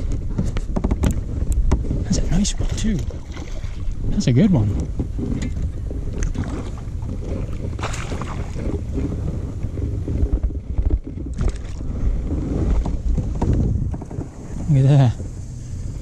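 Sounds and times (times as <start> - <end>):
water splashing beside kayak: 0.0 - 16.0
wind buffeting microphone: 0.0 - 16.0.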